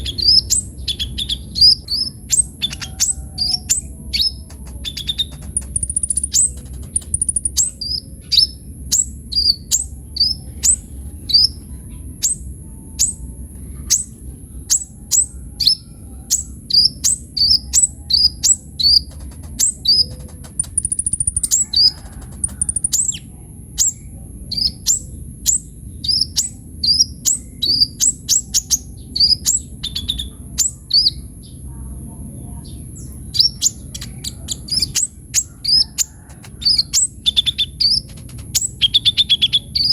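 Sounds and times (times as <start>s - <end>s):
sunbird singing high chirps: 0.0s - 31.6s, 32.5s - 39.9s.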